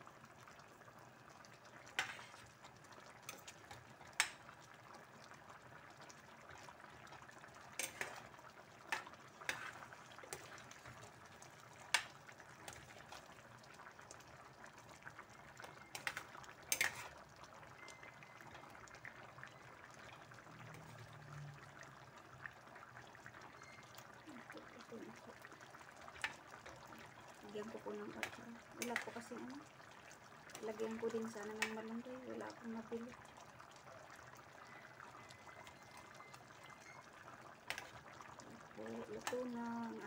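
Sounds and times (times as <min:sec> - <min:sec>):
stew bubbling in a pot: 0:00.0 - 0:40.0.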